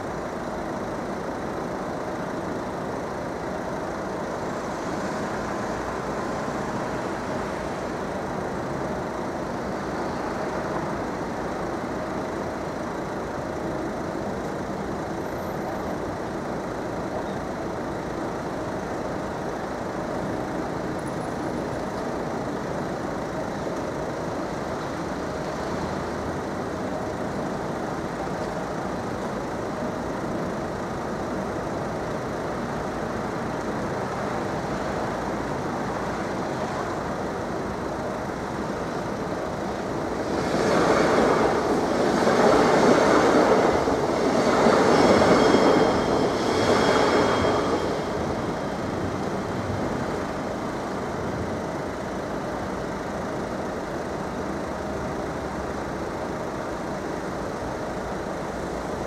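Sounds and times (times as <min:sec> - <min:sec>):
street traffic rumble and hiss: 0:00.0 - 0:59.0.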